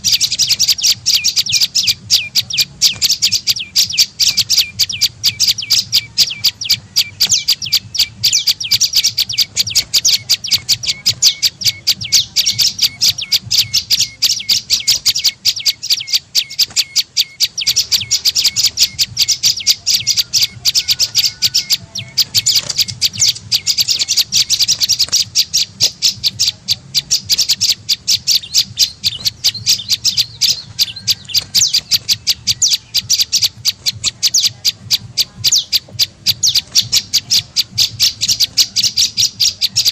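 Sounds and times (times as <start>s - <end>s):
bird chipping call: 0.0s - 39.9s.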